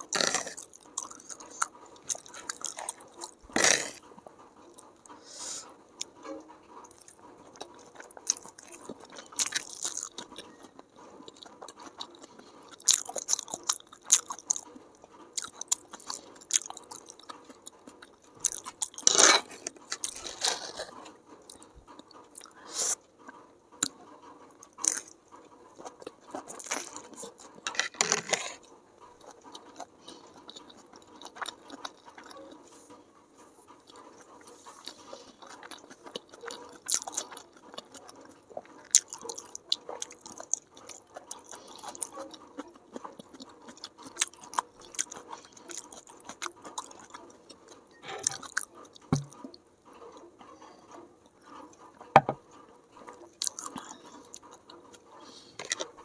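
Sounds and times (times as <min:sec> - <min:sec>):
wet chewing and slurping: 0:00.0 - 0:06.2, 0:06.8 - 0:23.1, 0:23.8 - 0:49.6, 0:53.0 - 0:56.0.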